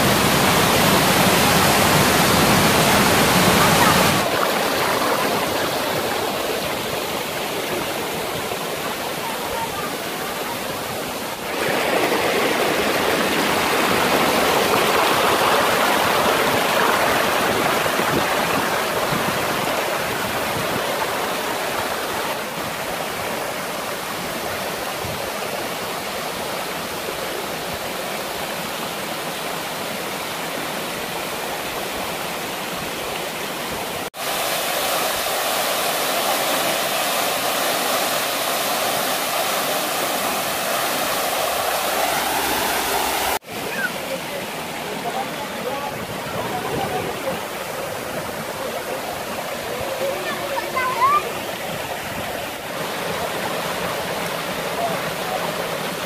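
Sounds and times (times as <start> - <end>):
water splashing over stones: 0.0 - 27.6, 34.0 - 56.0
waterfall rushing: 0.0 - 56.0.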